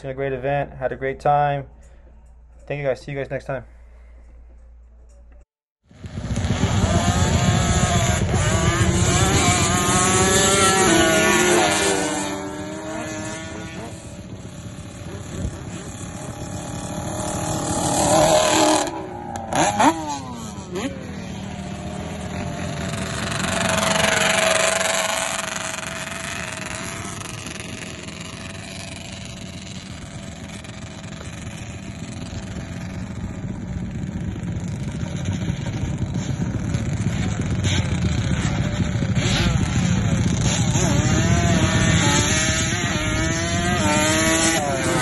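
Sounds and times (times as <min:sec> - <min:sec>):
quad engines revving: 0:05.9 - 0:45.0
quad passing close: 0:06.0 - 0:45.0.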